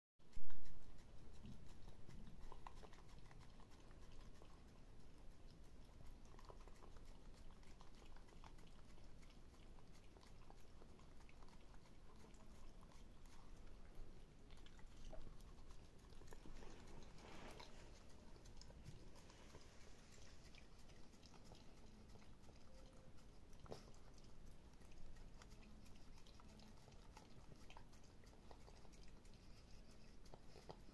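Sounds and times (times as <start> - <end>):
dog licking: 0.4 - 30.9.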